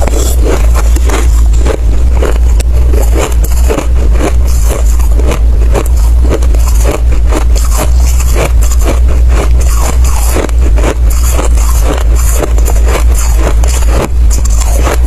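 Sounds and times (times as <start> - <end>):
chewing hard ice: 0.0 - 15.0
low rumble: 0.0 - 15.0.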